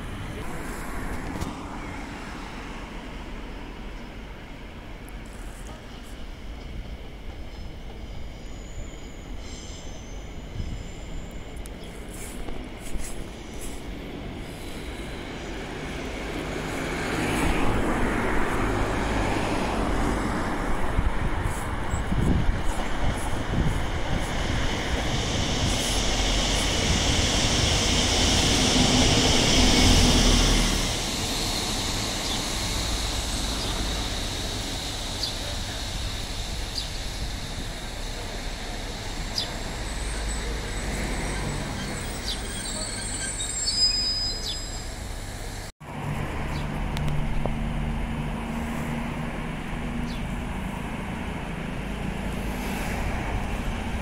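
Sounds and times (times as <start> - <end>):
diesel train engine and wheels: 0.0 - 54.0
diesel train pulling out: 0.0 - 54.0.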